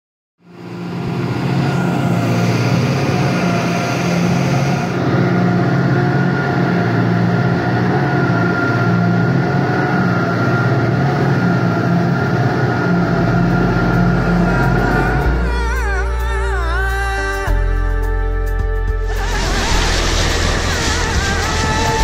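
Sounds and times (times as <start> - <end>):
outboard motors running: 0.4 - 17.4, 18.9 - 22.0.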